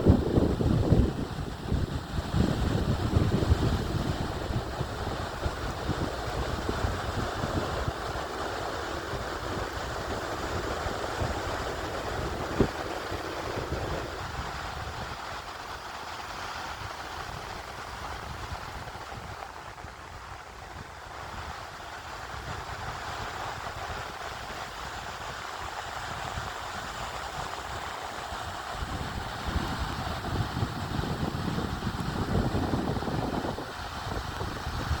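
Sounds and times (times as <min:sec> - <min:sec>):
sea surf on a beach: 0:00.0 - 0:35.0
wind buffeting microphone: 0:00.0 - 0:35.0.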